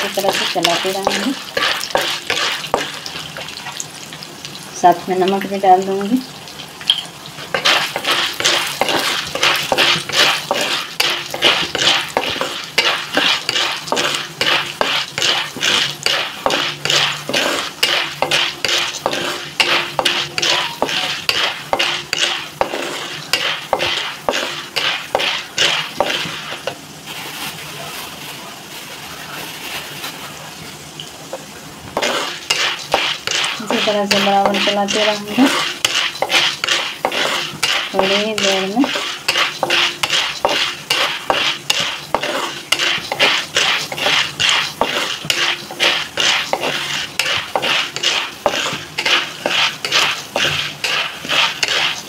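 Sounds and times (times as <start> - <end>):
spatula scraping kernels in pan: 0.0 - 4.6, 7.3 - 27.7, 31.3 - 52.0
oil sizzling: 0.0 - 52.0.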